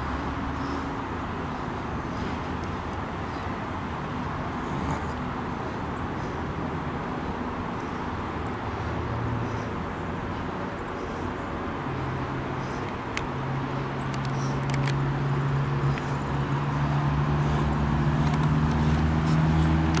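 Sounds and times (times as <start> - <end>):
diesel locomotive drone: 0.0 - 20.0.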